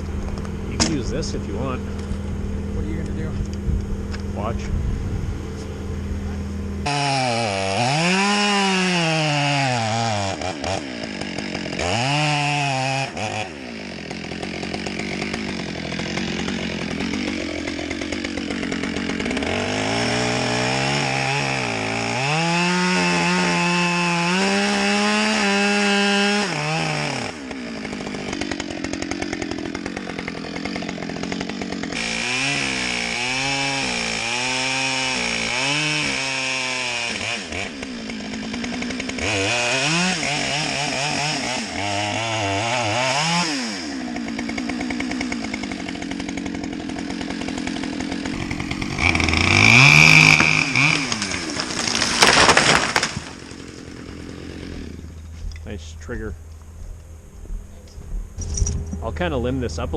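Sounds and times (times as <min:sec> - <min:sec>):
chainsaw cutting wood: 0:00.0 - 0:04.5, 0:05.4 - 0:56.8.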